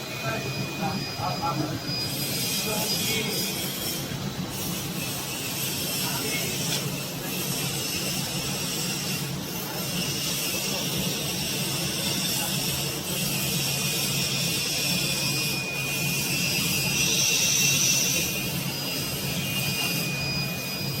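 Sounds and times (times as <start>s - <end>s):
machinery humming and hissing: 0.0s - 21.0s
thin high whine: 0.0s - 21.0s.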